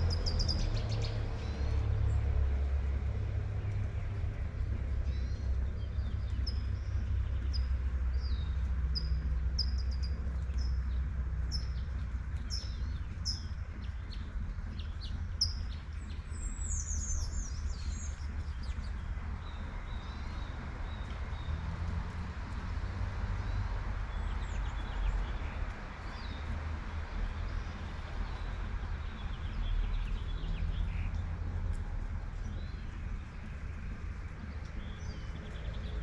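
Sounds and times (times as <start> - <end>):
songbird chirping and twittering: 0.0 - 2.7, 3.6 - 36.0
low rumble: 0.0 - 36.0.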